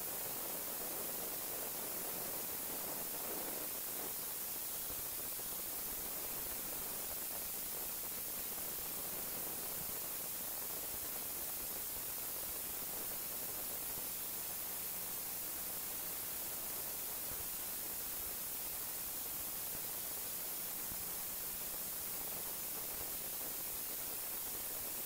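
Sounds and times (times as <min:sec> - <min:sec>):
steady recording hiss: 0:00.0 - 0:25.0.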